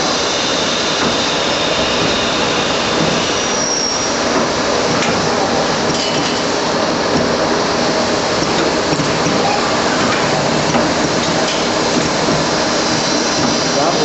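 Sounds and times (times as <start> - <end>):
lathe machining din: 0.0 - 14.0.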